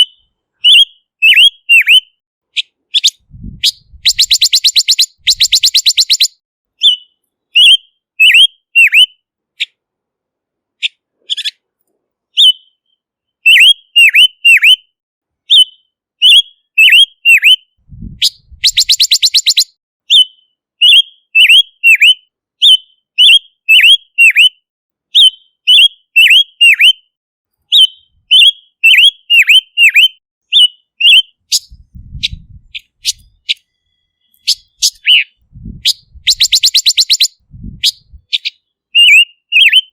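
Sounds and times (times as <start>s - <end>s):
bird whistling: 0.0s - 9.7s, 12.4s - 14.9s, 15.5s - 27.1s, 27.7s - 39.9s.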